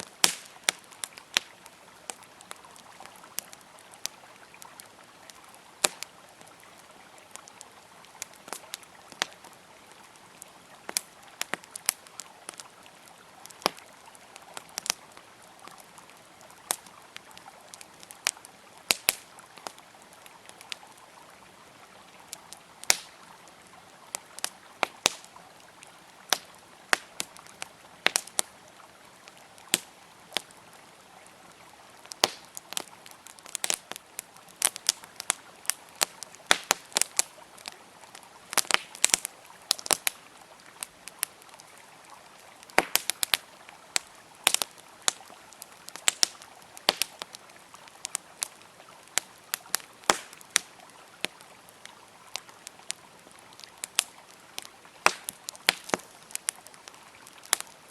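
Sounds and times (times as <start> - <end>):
campfire crackling and popping: 0.0 - 57.9
river flowing: 0.0 - 57.9.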